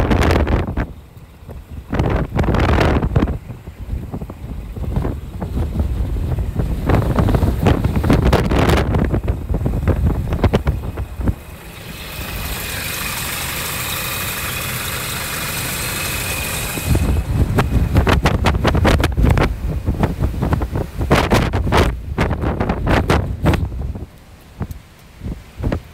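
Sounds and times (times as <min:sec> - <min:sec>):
diesel truck engine idling: 0:00.0 - 0:21.1
wind buffeting microphone: 0:00.0 - 0:25.9.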